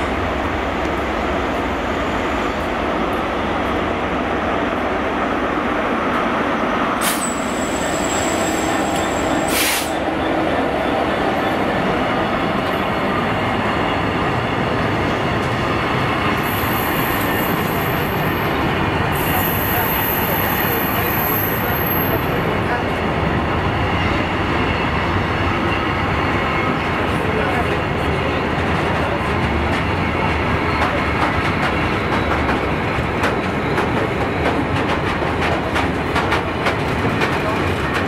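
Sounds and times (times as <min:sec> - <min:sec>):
diesel locomotive passing: 0:00.0 - 0:38.0.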